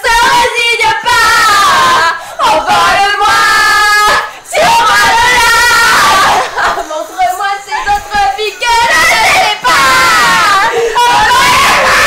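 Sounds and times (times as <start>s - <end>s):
women singing loudly: 0.0s - 12.0s.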